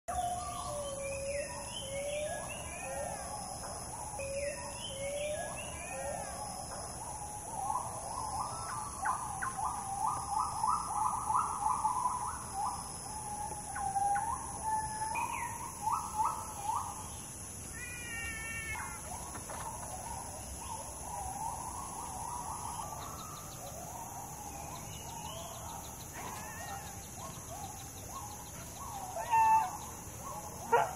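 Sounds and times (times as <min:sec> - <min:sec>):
high insect drone: 0:00.1 - 0:30.9
birds calling: 0:00.2 - 0:30.9.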